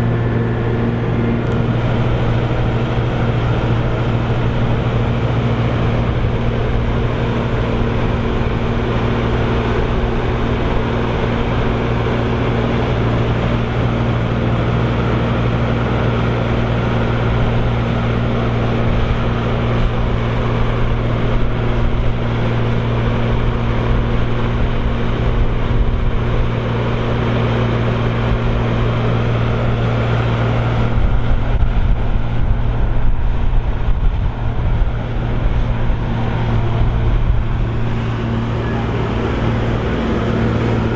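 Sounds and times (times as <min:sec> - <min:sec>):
forage harvester engine drone: 0:00.0 - 0:40.9.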